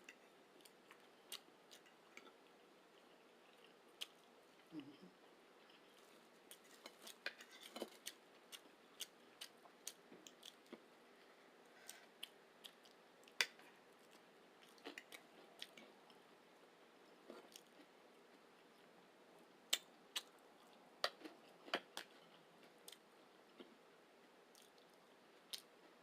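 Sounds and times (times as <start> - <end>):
soft chewing: 0.0 - 26.0.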